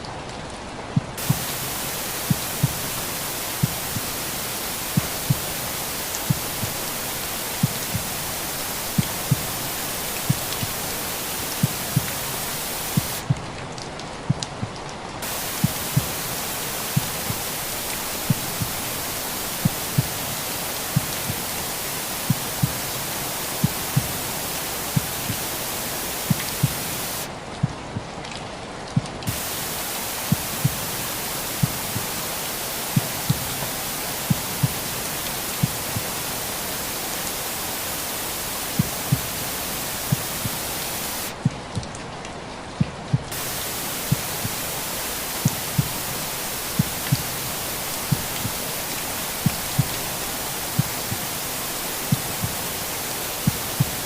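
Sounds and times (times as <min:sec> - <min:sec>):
steady white noise hiss: 0:00.0 - 0:54.0
heartbeat thumps: 0:01.2 - 0:13.4, 0:15.2 - 0:24.2, 0:24.9 - 0:28.1, 0:29.3 - 0:36.2, 0:38.6 - 0:41.6, 0:43.2 - 0:52.8, 0:53.4 - 0:54.0.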